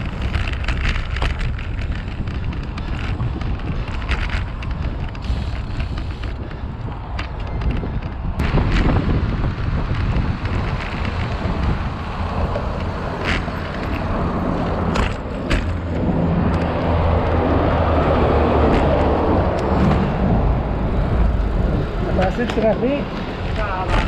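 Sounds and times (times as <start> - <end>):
bicycle tyre rumble: 0.0 - 24.0
bike clicks and rattles: 0.0 - 24.0
motor traffic passing: 0.0 - 24.0
wind: 0.0 - 24.0.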